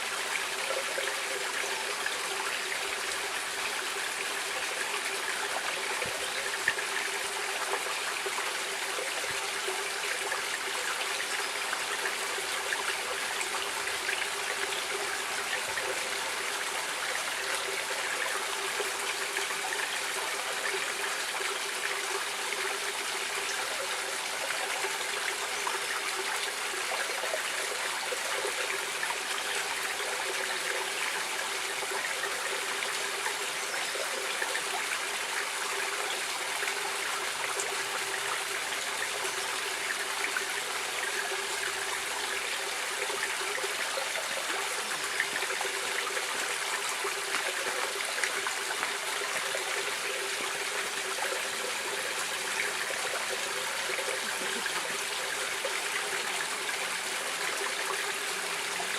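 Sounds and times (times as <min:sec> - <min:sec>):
stream running water: 0:00.0 - 0:58.9.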